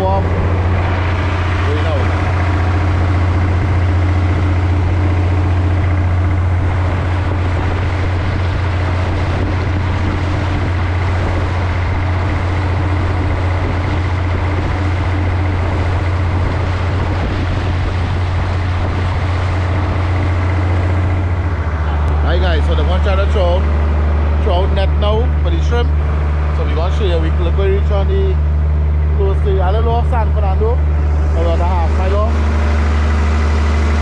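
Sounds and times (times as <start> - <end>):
boat engine droning: 0.0 - 34.0
water splashing along hull: 0.0 - 34.0.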